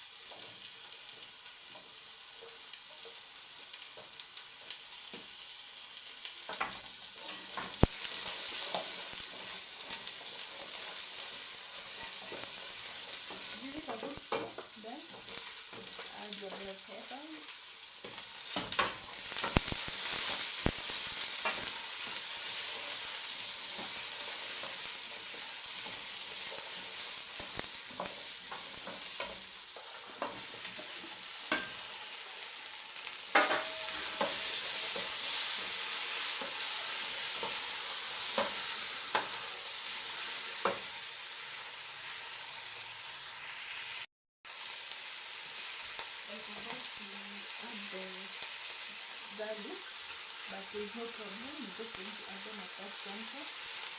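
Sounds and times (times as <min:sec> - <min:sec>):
vegetables sizzling in hot oil: 0:00.0 - 0:53.9.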